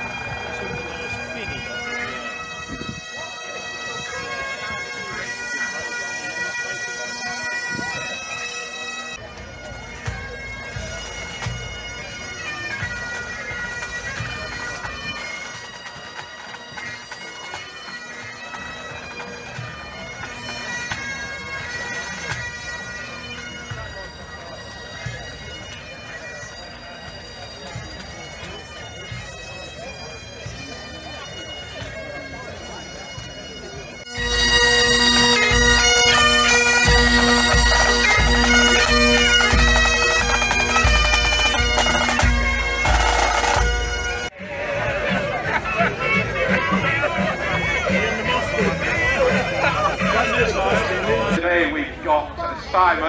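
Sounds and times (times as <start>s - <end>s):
bagpipes playing: 0.0s - 53.0s.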